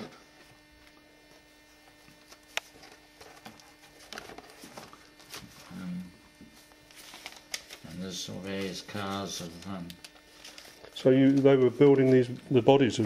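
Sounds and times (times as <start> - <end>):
pages rustling and turning: 1.7 - 13.0.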